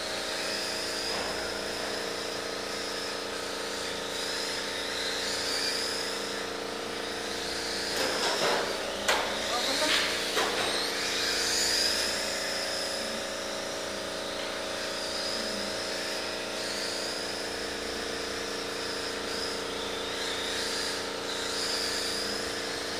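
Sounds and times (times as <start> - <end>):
rc car motor whine: 0.0 - 22.9.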